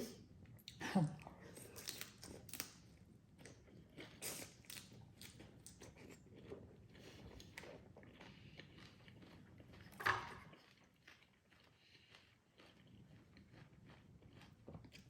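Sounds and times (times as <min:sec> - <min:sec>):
chewing and crunching food: 0:00.5 - 0:15.0.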